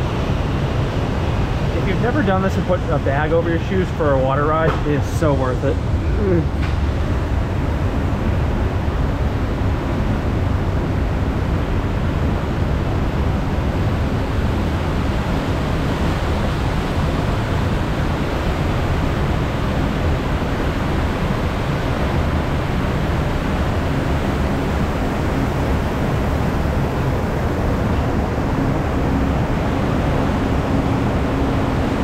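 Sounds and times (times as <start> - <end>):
conveyor lift and rushing water: 0.0 - 32.0.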